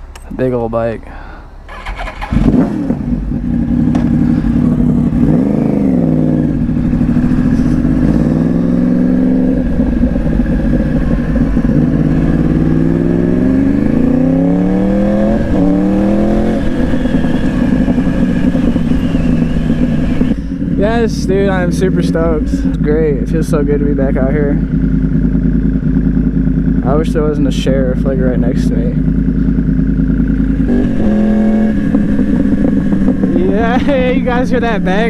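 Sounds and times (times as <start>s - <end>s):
motorcycle engine accelerating: 1.7s - 35.0s.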